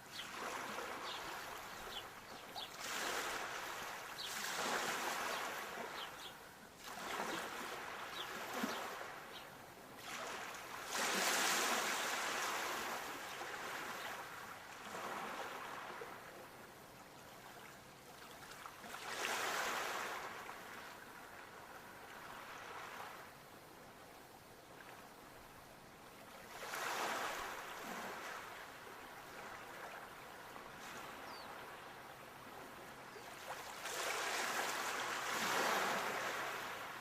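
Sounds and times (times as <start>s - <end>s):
sea waves surging and washing: 0.0s - 16.3s, 18.7s - 23.3s, 26.4s - 37.0s.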